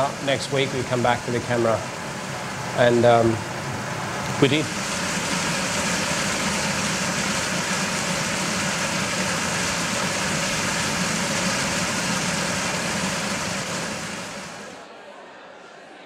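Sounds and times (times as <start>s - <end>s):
white water rushing: 0.0s - 14.8s.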